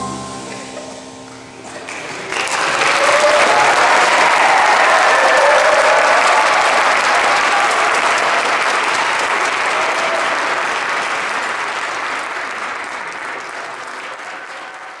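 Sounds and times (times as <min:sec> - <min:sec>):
audience applauding: 0:01.7 - 0:15.0.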